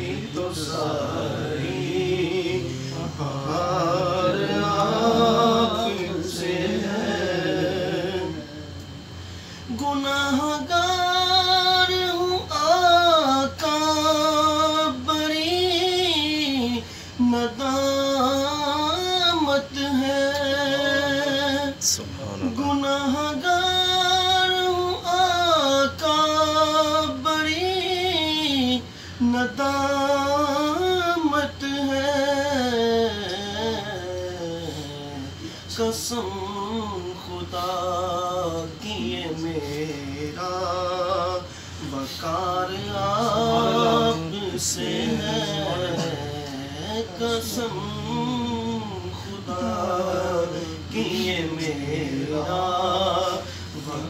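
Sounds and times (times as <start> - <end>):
men singing together: 0.0 - 54.0.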